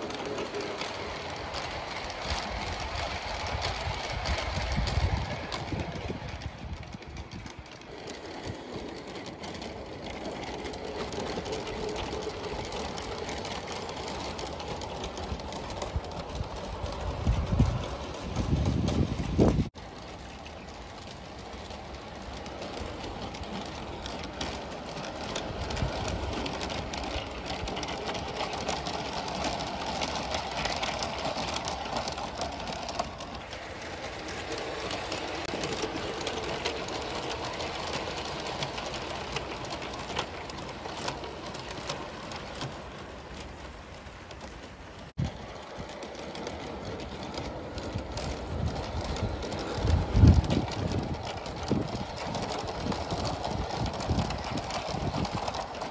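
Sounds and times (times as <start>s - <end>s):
model train motor hum: 0.0s - 55.9s
wheels clicking over rail joints: 0.0s - 55.9s
wheels running on track: 0.0s - 55.9s.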